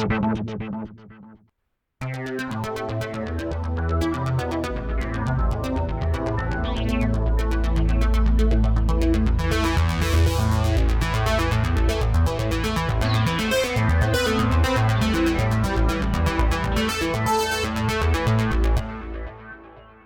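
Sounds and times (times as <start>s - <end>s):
low synth bass line: 0.0s - 1.3s, 2.0s - 20.0s.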